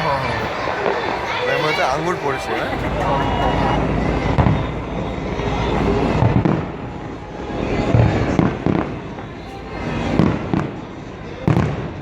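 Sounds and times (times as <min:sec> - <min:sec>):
fireworks booming with echo: 0:02.2 - 0:12.0.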